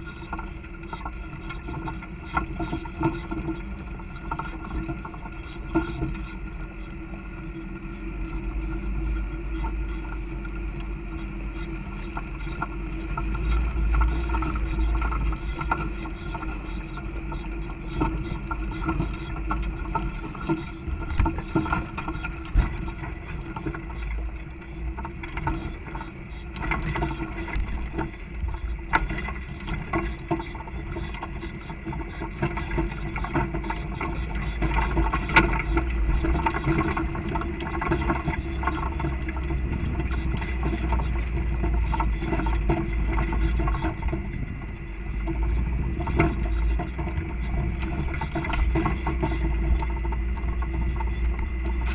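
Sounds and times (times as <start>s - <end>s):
off-road engine rumbling: 0.0s - 51.9s.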